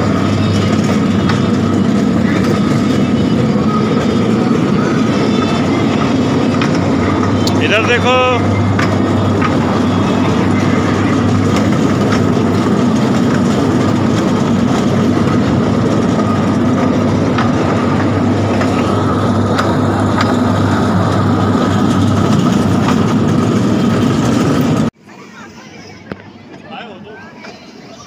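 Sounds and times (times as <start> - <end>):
ride-on train motor hum: 0.0 - 25.0
wheels clicking on rails: 0.0 - 25.0.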